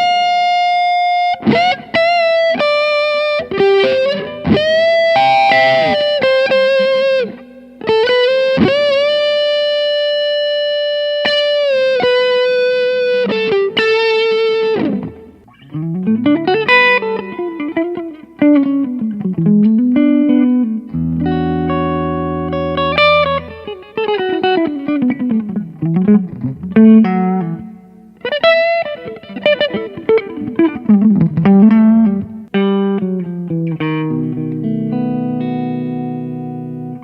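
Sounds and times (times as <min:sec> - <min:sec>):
electric guitar lead line: 0:00.0 - 0:37.0.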